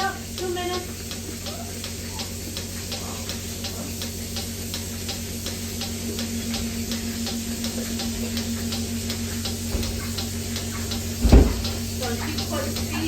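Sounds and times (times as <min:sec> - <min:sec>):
mechanical hum: 0:00.0 - 0:13.0
milking machine pulsator clicks: 0:00.0 - 0:13.0.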